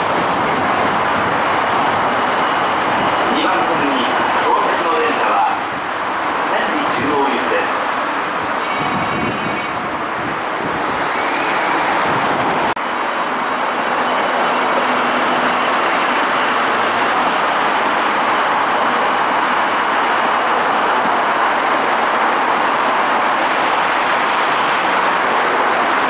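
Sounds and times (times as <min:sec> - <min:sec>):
electric train wheels rushing: 0:00.0 - 0:26.0
road traffic: 0:00.0 - 0:26.0.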